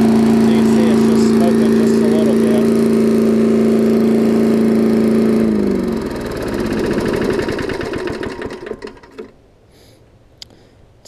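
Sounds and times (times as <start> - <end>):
engine coasting down in chuffs: 0.0 - 9.4
lawn mower engine running: 0.0 - 9.4.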